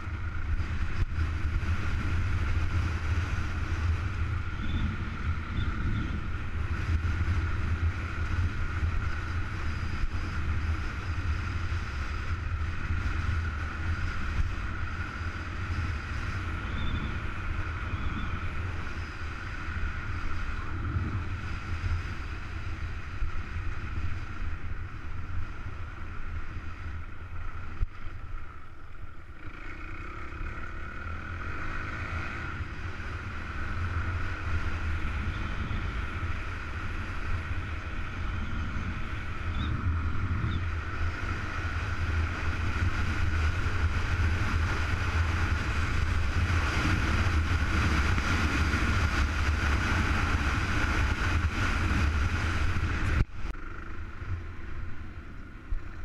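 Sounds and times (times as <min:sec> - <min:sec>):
wind noise: 0:00.0 - 0:29.0, 0:31.1 - 0:56.0
motorcycle engine running: 0:00.0 - 0:56.0.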